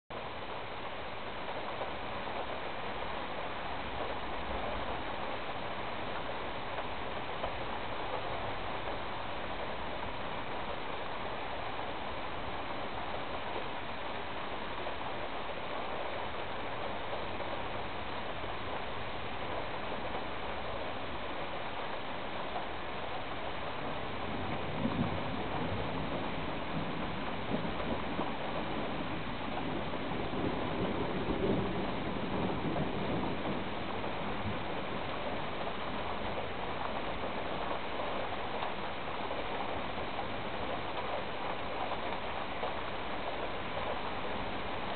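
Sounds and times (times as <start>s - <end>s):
steady rain falling: 0.1s - 44.9s.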